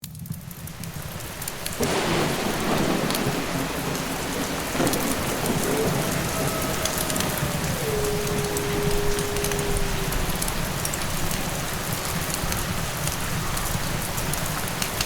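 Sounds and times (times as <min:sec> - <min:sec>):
heavy rain: 0:00.0 - 0:15.0
low rumble of thunder: 0:00.6 - 0:15.0
wolf howling: 0:00.9 - 0:14.6.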